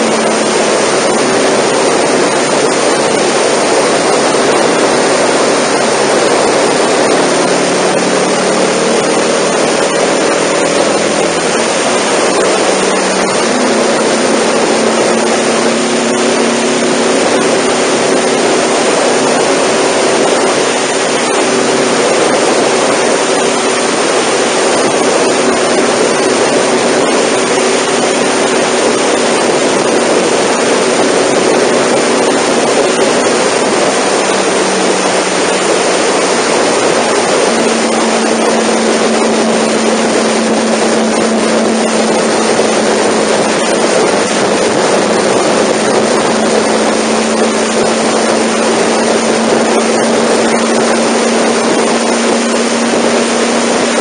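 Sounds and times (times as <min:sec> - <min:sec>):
motorcycle engine humming: 0:00.0 - 0:54.0
wind rushing over microphone: 0:00.0 - 0:54.0.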